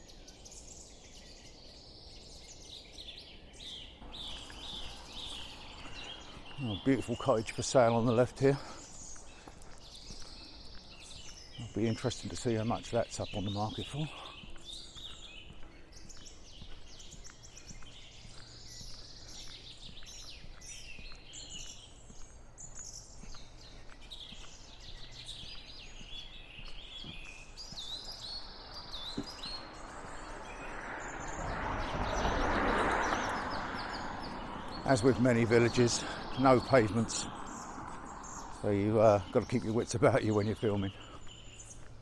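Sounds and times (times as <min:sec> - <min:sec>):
songbirds chirping and trilling: 0:00.0 - 0:42.0
faint footsteps: 0:03.2 - 0:42.0.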